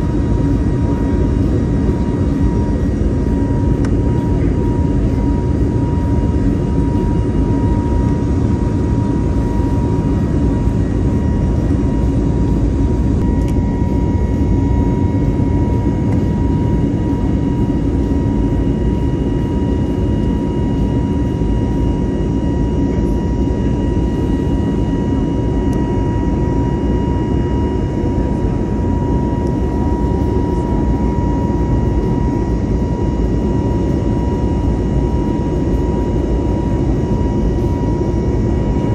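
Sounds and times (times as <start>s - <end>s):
high engine whine: 0.0s - 38.9s
jet engine cabin rumble: 0.0s - 38.9s.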